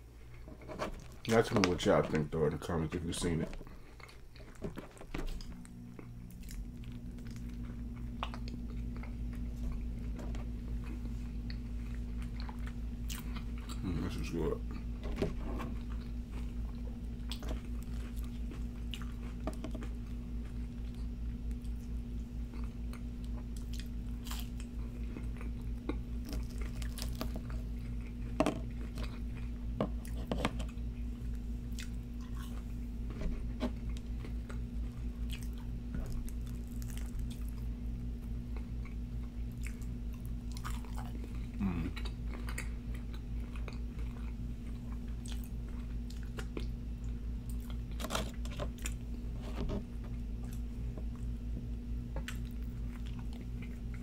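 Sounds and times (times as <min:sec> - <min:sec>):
chewing and crunching food: 0:00.0 - 0:54.0
low hum: 0:00.0 - 0:54.0.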